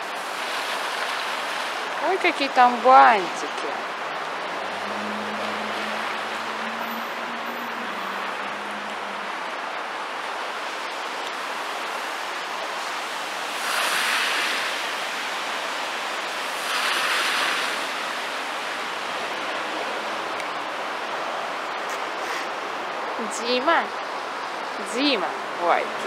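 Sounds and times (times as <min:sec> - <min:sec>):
road traffic hiss: 0:00.0 - 0:26.0
vehicles passing on wet road: 0:00.0 - 0:26.0.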